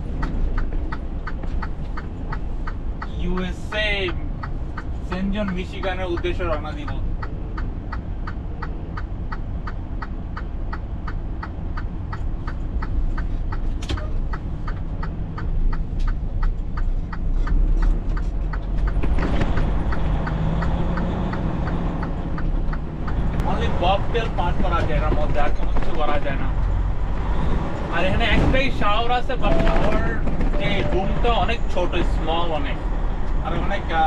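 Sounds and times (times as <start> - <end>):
truck engine rumbling: 0.0 - 34.0
turn signal ticking: 0.0 - 34.0.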